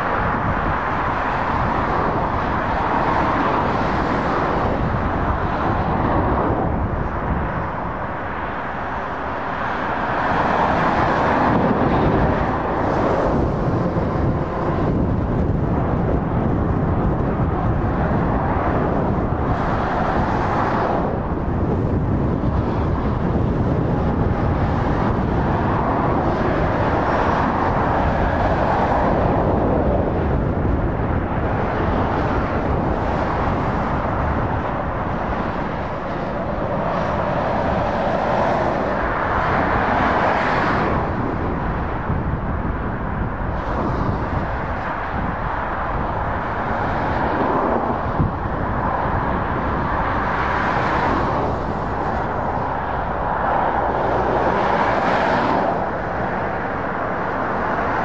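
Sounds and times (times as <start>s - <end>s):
vehicles driving past: 0.0s - 58.0s.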